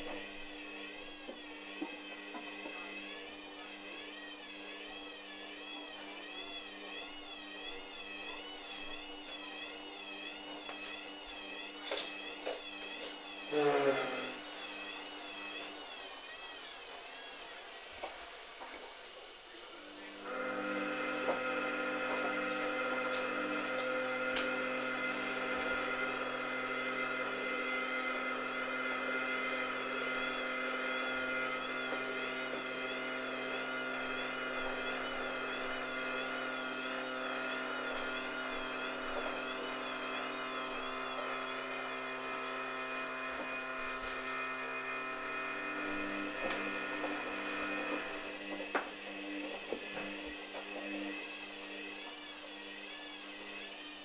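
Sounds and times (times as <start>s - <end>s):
washing machine motor whining: 0.0s - 54.0s.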